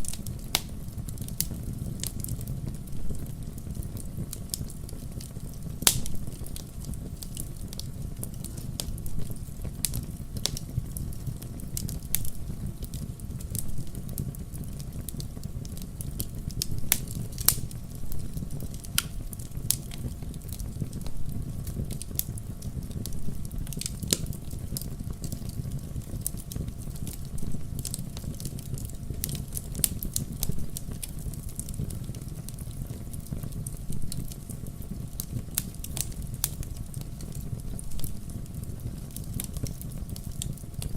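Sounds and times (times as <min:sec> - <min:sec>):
fire rumbling: 0:00.0 - 0:40.9
logs crackling and popping: 0:00.0 - 0:40.9.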